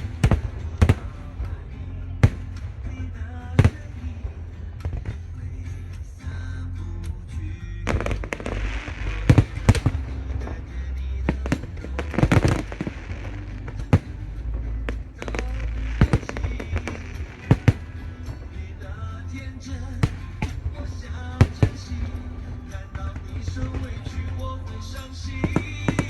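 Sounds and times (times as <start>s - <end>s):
background music: 0.0s - 26.0s
fireworks bangs: 0.0s - 26.0s
fireworks crackling: 0.0s - 26.0s.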